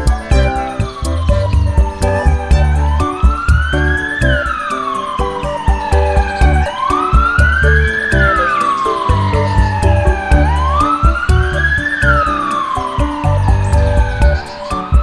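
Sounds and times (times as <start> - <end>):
emergency siren wailing: 0.0 - 15.0
music with steady beat: 0.0 - 15.0.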